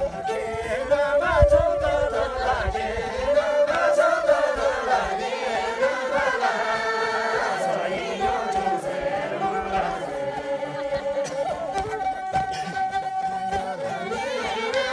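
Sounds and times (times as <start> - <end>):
people singing without instruments: 0.0 - 14.9.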